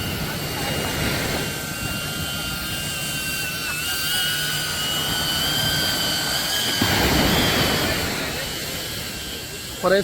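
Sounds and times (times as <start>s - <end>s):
motor whining: 0.0s - 10.0s.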